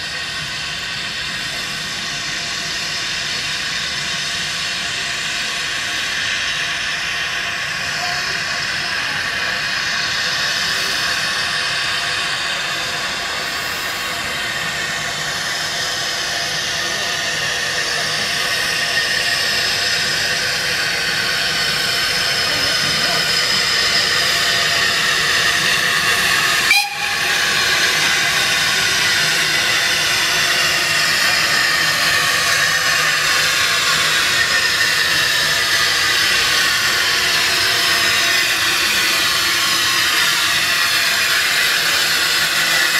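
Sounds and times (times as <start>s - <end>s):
steam hissing: 0.0s - 42.9s.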